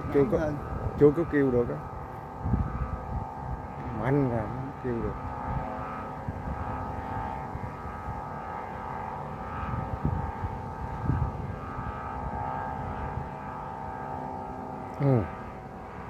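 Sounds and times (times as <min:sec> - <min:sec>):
kite hummer droning: 0:00.0 - 0:16.0
strong wind: 0:00.0 - 0:16.0.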